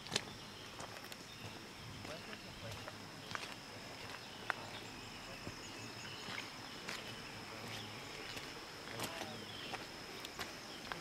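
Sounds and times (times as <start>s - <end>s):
faint bird chirps: 0.0s - 11.0s
insect trill: 0.0s - 11.0s.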